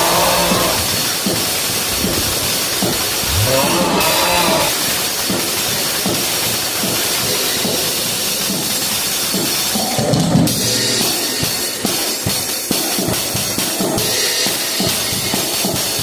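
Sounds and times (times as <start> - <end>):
drum kit playing: 0.0 - 16.0.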